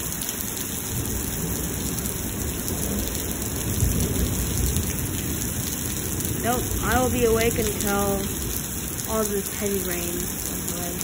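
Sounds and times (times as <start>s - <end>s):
heavy rain pouring: 0.0s - 11.0s
low rumble of thunder: 0.0s - 11.0s.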